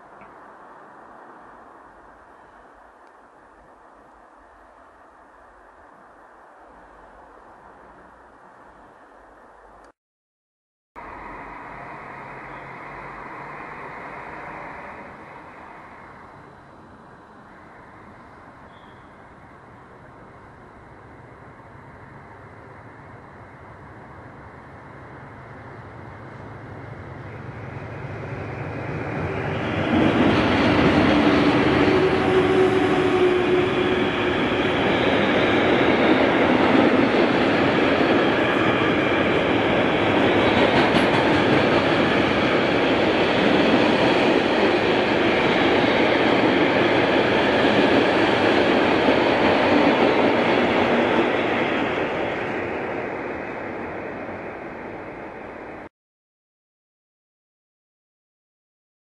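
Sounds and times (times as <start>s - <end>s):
electric locomotives passing: 0.0s - 9.9s, 11.0s - 55.9s.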